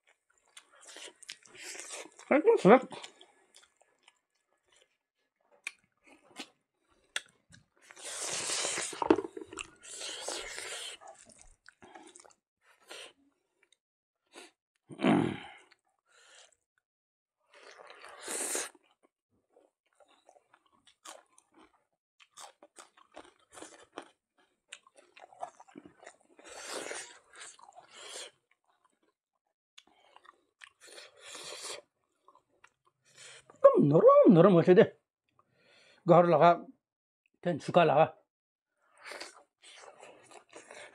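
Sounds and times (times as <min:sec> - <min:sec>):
man chewing and crunching food: 0:00.0 - 0:14.6, 0:15.4 - 0:16.6, 0:17.5 - 0:29.2, 0:29.8 - 0:33.6, 0:38.8 - 0:40.9.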